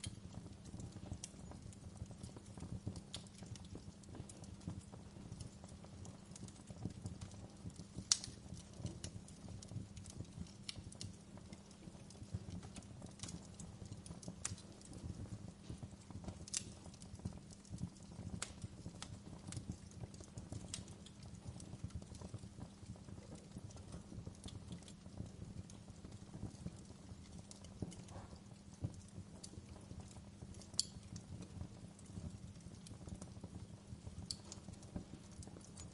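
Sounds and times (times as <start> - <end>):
wood fire crackling in fireplace: 0.0 - 35.9.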